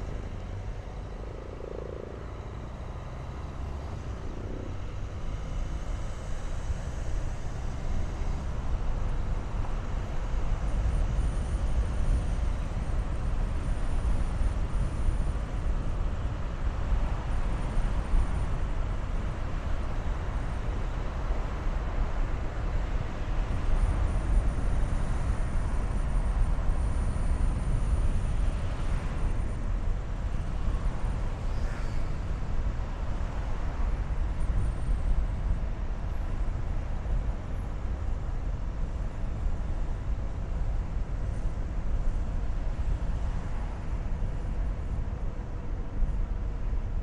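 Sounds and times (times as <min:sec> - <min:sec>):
car engine and tyre rumble: 0:00.0 - 0:47.0.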